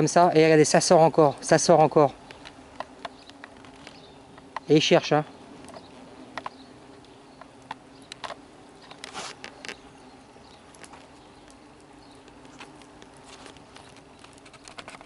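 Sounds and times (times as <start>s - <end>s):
dry crackles in leaves: 0.0s - 15.0s
hornets buzzing: 0.0s - 15.0s.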